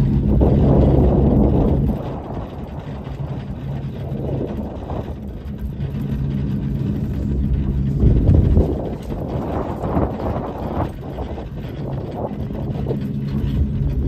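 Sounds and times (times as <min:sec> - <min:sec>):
motor engine humming: 0:00.0 - 0:14.0.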